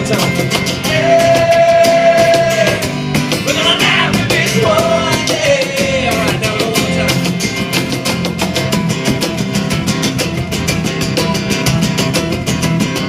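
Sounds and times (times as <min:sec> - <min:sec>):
steady drum beat: 0:00.0 - 0:13.0
strummed guitars: 0:00.0 - 0:13.0.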